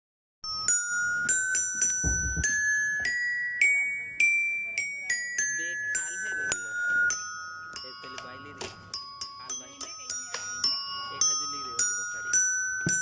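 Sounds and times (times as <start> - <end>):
tinkling bell-like tune: 0.4 - 13.0.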